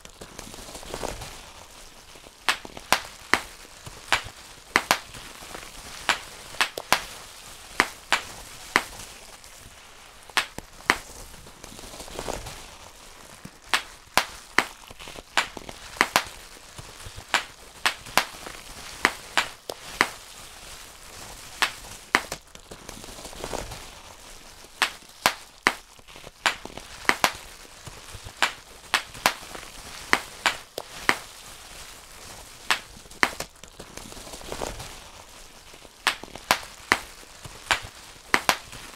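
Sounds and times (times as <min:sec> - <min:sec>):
bubble wrap popping: 0:00.0 - 0:38.9
plastic sheet crinkling: 0:00.0 - 0:38.9.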